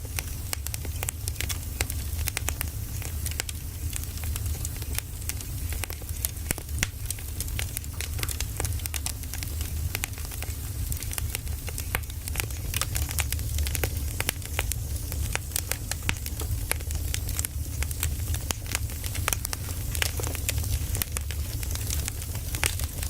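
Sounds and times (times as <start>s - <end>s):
firewood crackling: 0.0s - 23.0s.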